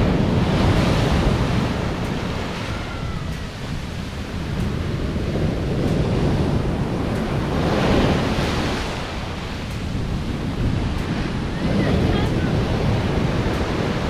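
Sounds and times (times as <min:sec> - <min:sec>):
sea waves crashing: 0:00.0 - 0:14.0
wind buffeting microphone: 0:00.0 - 0:14.0.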